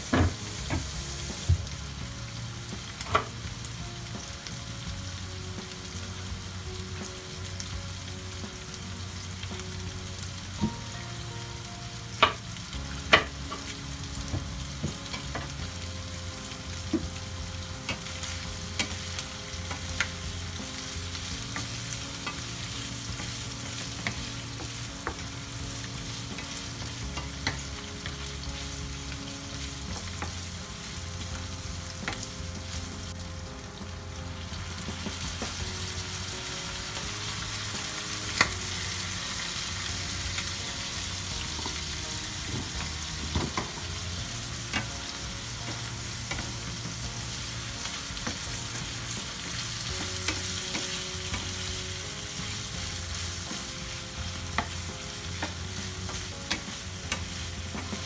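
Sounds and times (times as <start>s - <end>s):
livers sizzling in frying pan: 0.0s - 58.0s.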